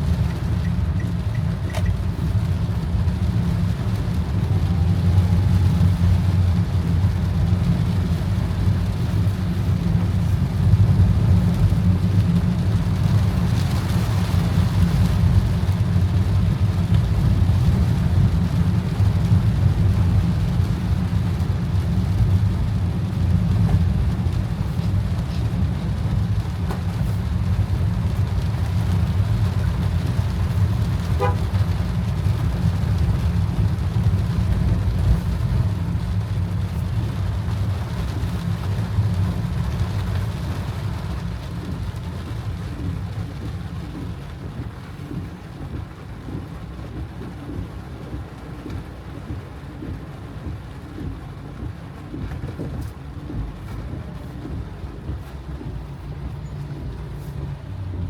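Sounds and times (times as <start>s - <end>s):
car road and engine rumble: 0.0s - 58.0s
rain hissing on car: 0.0s - 58.0s.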